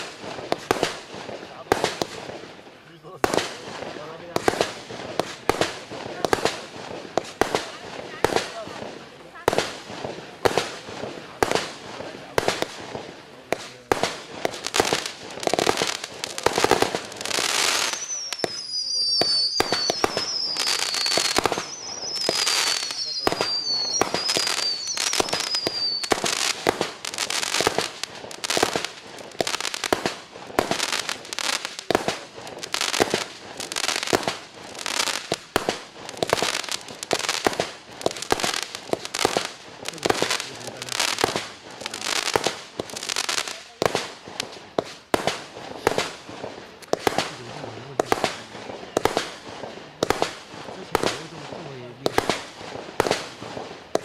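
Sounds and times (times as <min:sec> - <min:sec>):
fireworks falling whistles: 0:00.0 - 0:54.0
fireworks sharp reports: 0:00.0 - 0:54.0.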